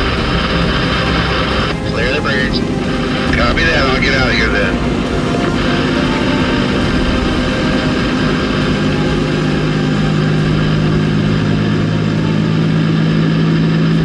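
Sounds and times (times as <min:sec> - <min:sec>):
diesel truck engine drone: 0:00.0 - 0:14.0
low hum: 0:00.0 - 0:14.0
wind and road noise: 0:00.0 - 0:14.0.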